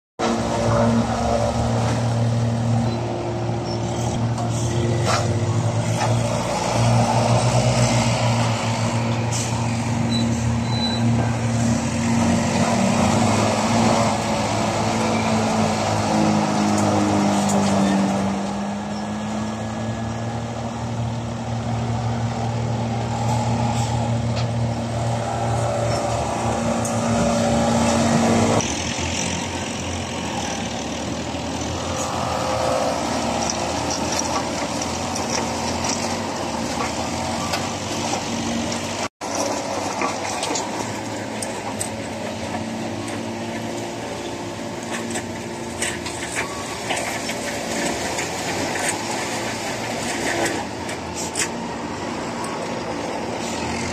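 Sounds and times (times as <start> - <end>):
diesel engine humming: 0.2 - 53.9.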